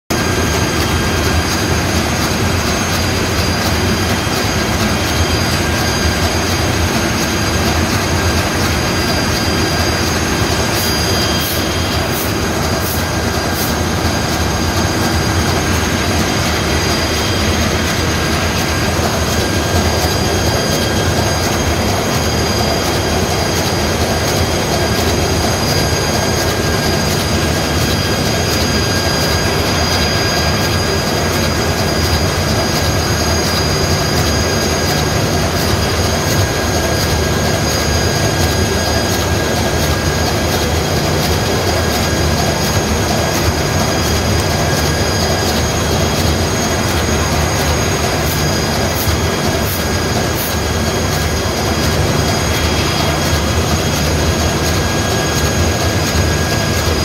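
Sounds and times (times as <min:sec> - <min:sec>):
high-pitched whine: 0:00.1 - 0:57.0
diesel engine running: 0:00.2 - 0:57.0.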